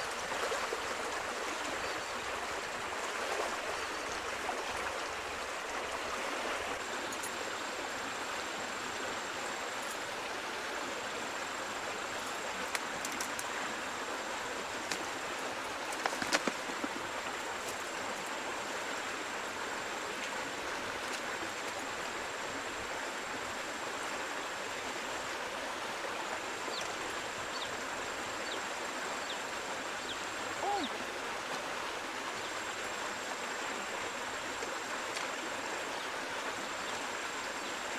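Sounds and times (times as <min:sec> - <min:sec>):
stream water rushing: 0:00.0 - 0:37.9.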